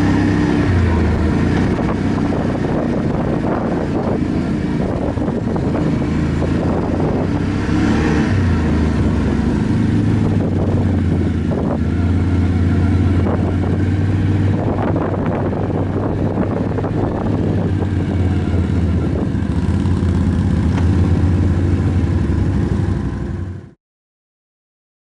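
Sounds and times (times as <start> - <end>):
atv engine running: 0.0 - 23.7.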